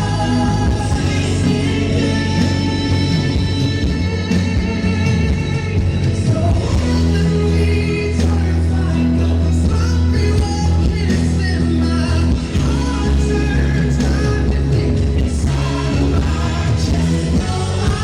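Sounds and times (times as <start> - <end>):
band playing: 0.0 - 18.0
worship song singing: 0.0 - 18.0.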